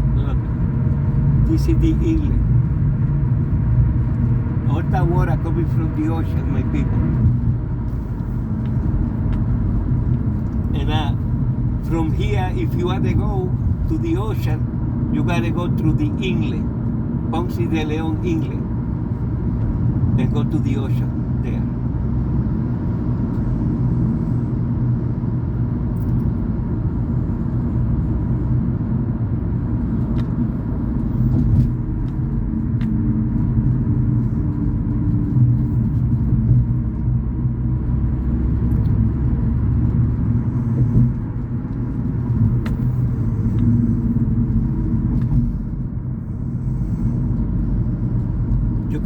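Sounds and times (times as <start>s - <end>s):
car engine rumble: 0.0s - 49.0s
tyres on road: 0.0s - 49.0s.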